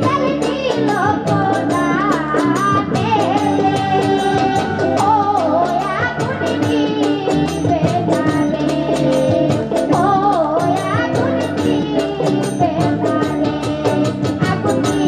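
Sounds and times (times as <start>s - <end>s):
band playing: 0.0s - 15.0s
steady percussion beat: 0.0s - 15.0s
woman singing into a microphone: 0.0s - 15.0s.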